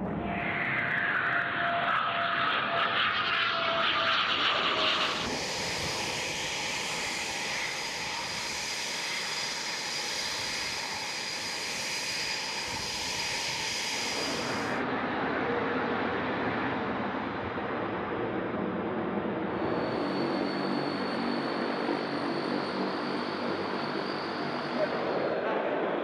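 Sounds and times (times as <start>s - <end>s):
jet engines whining: 0.0s - 15.0s, 18.9s - 26.0s.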